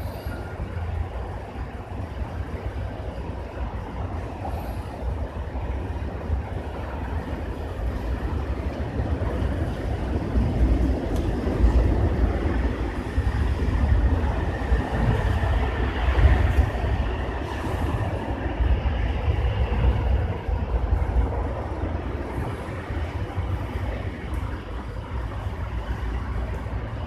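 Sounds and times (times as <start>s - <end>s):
low outdoor background rumble: 0.0s - 27.0s.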